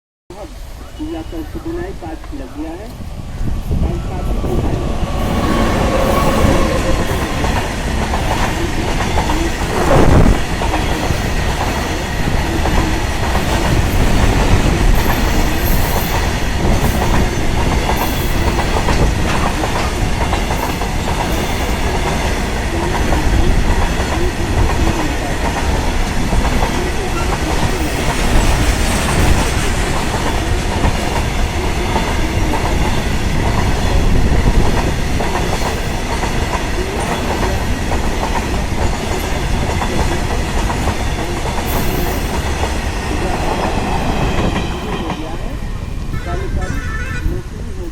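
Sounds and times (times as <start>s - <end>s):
train wheels clattering: 2.7s - 46.2s.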